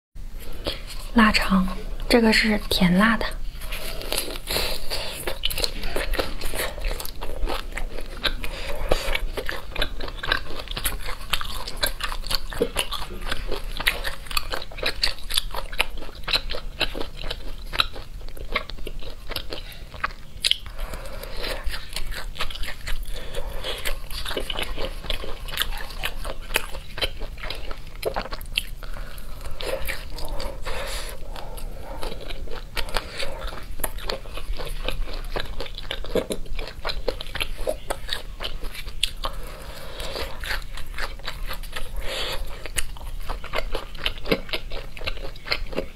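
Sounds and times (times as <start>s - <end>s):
biting and chewing sausage: 0.4s - 45.9s.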